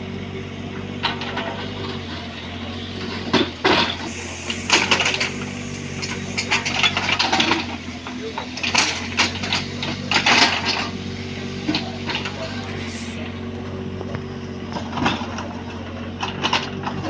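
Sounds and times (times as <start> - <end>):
mini excavator diesel engine: 0.0 - 17.0
loud clanks and scrapes: 1.0 - 2.4, 3.0 - 13.4, 14.7 - 17.0.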